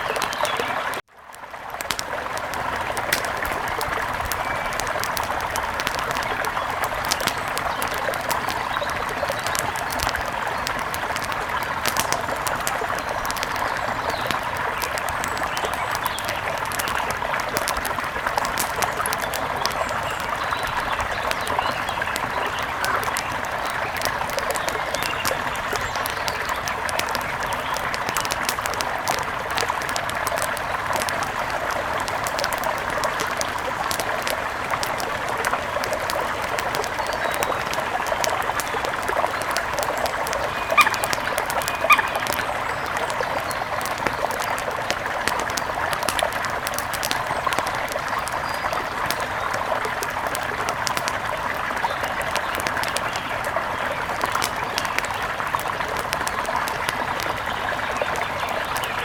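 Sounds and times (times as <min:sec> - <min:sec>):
small sharp ticks and pops: 0:00.0 - 0:59.0.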